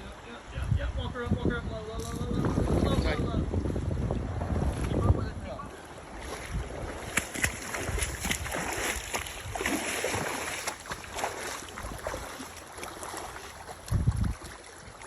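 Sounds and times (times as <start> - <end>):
water splashing around wading person: 2.2 - 15.0.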